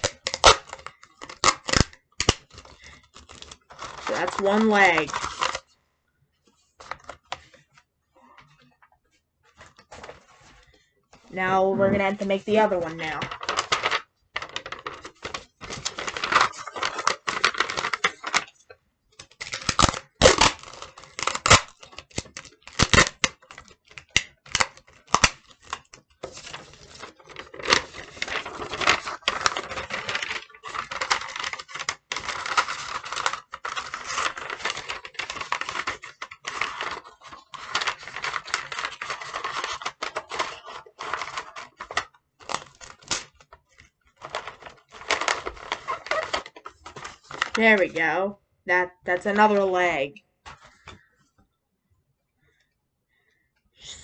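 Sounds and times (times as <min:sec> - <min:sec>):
paper crumpling: 0:00.0 - 0:05.7, 0:09.5 - 0:18.6, 0:19.2 - 0:48.0.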